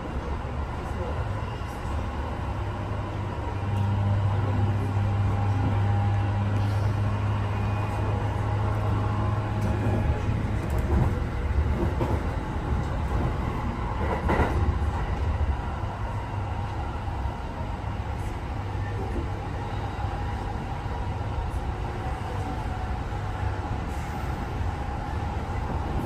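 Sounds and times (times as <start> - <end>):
train running drone: 0.0 - 26.0.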